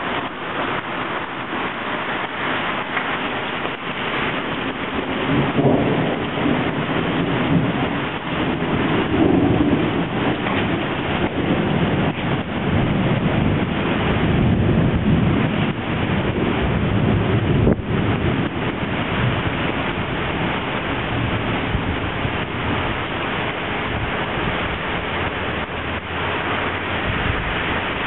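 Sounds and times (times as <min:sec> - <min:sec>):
heavy rain splashing on street: 0:00.0 - 0:28.0
wind rumbling on microphone: 0:00.0 - 0:28.0.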